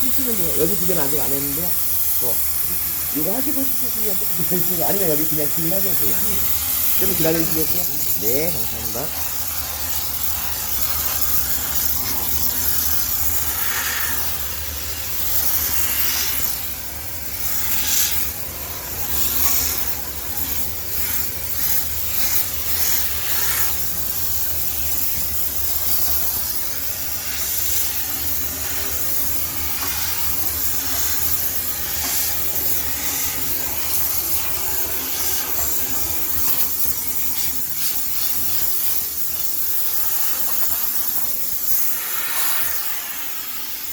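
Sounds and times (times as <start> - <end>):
steam jet hissing: 0.0 - 43.9.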